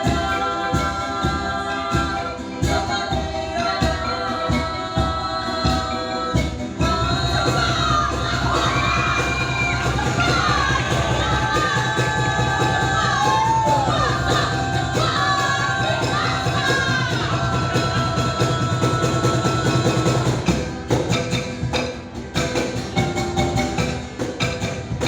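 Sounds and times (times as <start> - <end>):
voices singing: 0.0 - 22.5
crowd noise: 0.0 - 25.0
sharp wooden percussion strikes: 0.0 - 25.0
steady percussion: 0.0 - 25.0.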